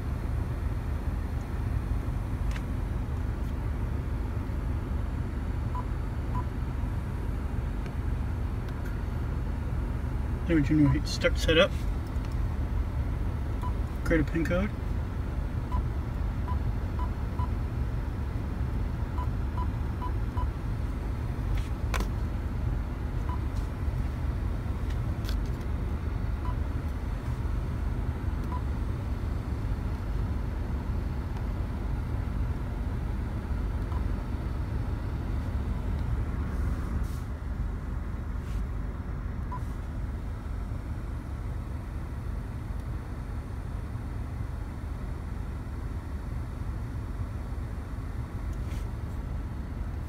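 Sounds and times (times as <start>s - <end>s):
low rumble inside car: 0.0s - 50.0s.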